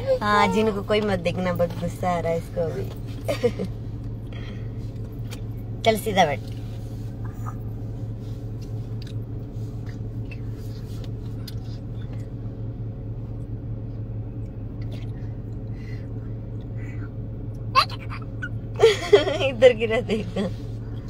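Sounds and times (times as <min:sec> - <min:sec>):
car cabin engine hum: 0:00.0 - 0:21.0.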